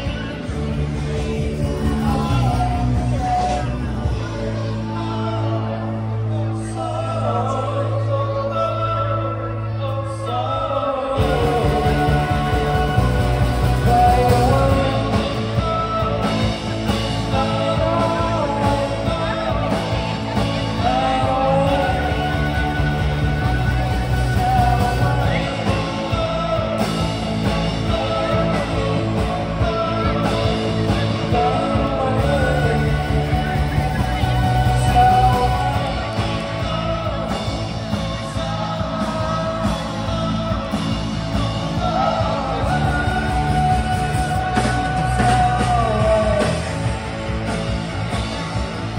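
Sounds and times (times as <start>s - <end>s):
drum kit: 0.0s - 4.5s, 11.2s - 48.9s
live rock band playing: 0.0s - 7.2s, 11.1s - 48.9s
person singing lead vocal: 0.0s - 48.9s.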